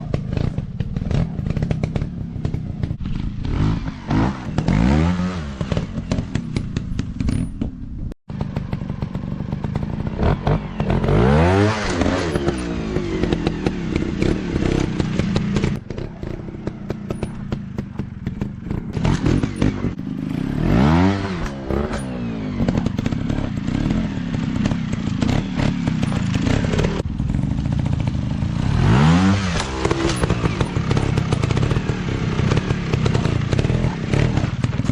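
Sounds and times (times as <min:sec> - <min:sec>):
engine clattering and knocks: 0:00.0 - 0:04.9, 0:05.6 - 0:34.9
dirt bike engines revving: 0:00.0 - 0:07.4, 0:08.4 - 0:34.9.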